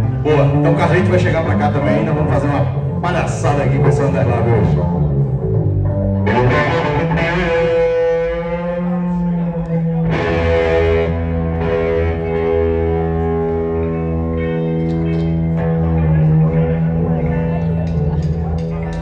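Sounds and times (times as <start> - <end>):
distorted electric guitar chords: 0.0 - 19.0
low bass line: 0.0 - 19.0.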